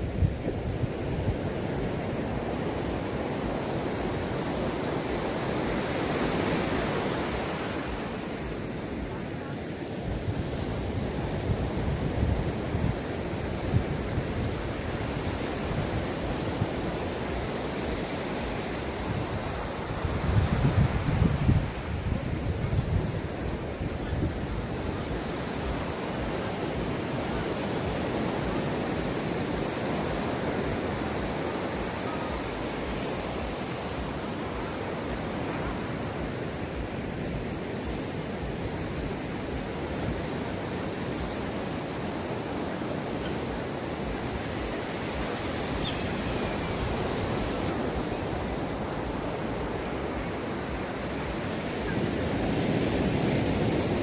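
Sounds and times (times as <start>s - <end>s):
ocean waves on shore: 0.0s - 54.0s
wind buffeting microphone: 0.0s - 54.0s.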